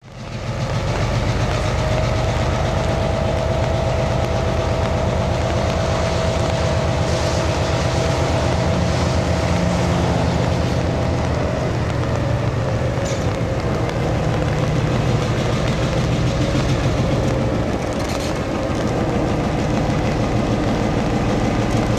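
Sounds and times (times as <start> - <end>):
diesel locomotive engine throbbing: 0.0 - 21.9
thin steady whine: 0.0 - 21.9.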